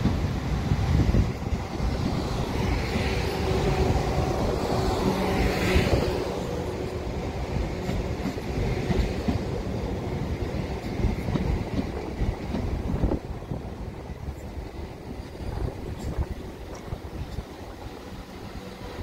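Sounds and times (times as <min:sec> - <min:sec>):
electric train humming past: 0:00.0 - 0:19.0.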